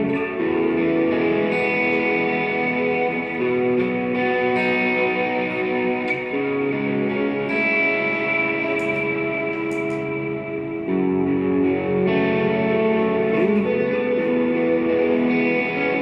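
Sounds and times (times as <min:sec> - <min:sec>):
electric guitar sustained chords: 0:00.0 - 0:16.0.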